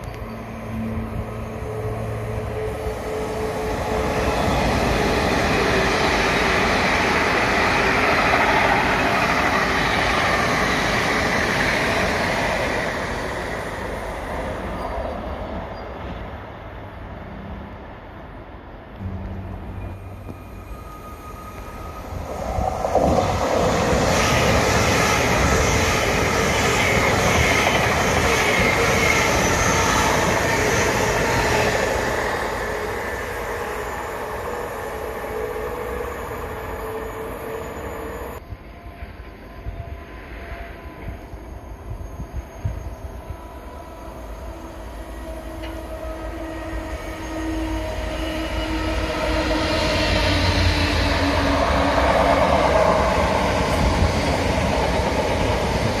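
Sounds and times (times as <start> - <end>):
trains passing close: 0.0 - 56.0.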